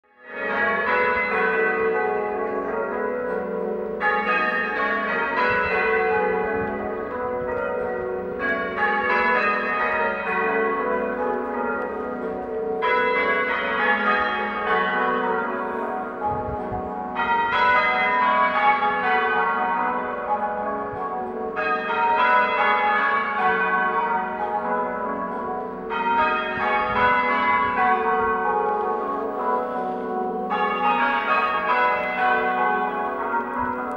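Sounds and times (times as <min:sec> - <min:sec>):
half-muffled church bells ringing: 0:00.1 - 0:33.9.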